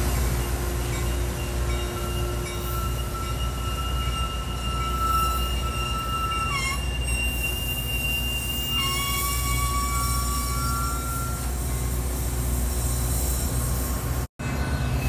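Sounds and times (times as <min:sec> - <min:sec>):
train rumbling past: 0:00.0 - 0:15.0
train wheels squealing: 0:00.0 - 0:15.0.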